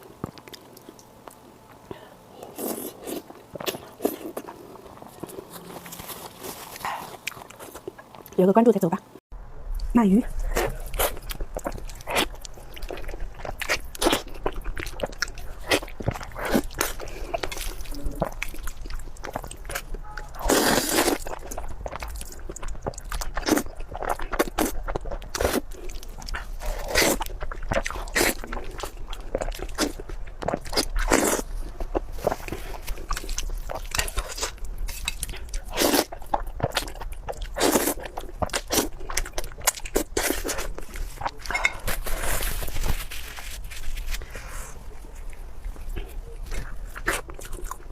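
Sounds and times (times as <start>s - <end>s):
person chewing and crunching: 0.0s - 8.4s, 9.8s - 47.9s.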